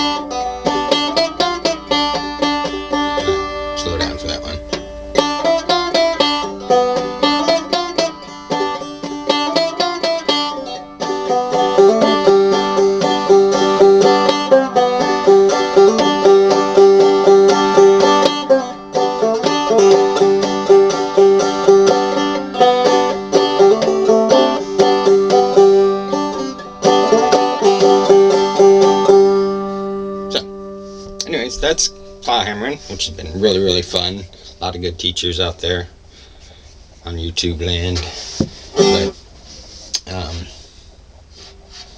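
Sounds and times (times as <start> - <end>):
banjo plucked slowly: 0.0 - 35.0, 37.9 - 40.7.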